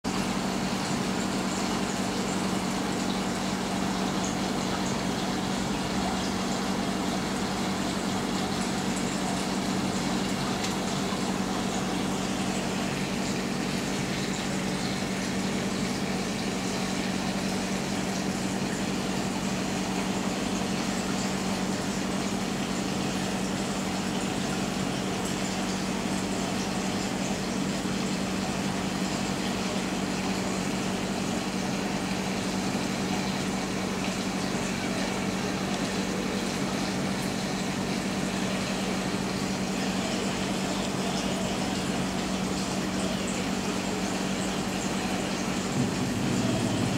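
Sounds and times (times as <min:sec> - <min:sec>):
aquarium pump hum: 0:00.0 - 0:46.9
moving water wash: 0:00.1 - 0:46.9.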